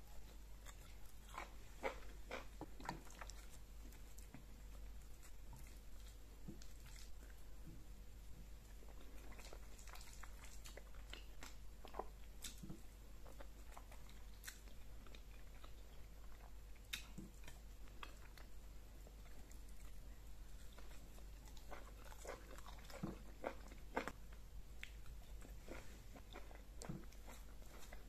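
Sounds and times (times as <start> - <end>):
person chewing with mouth smacks: 0.0 - 7.9, 8.7 - 28.0.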